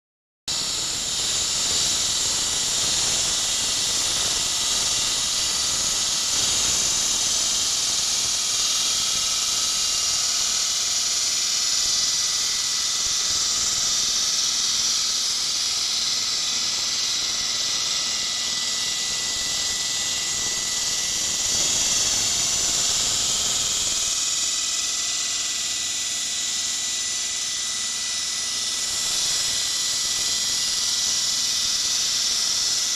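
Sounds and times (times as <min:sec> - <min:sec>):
saw grinding through concrete: 0:00.5 - 0:32.9.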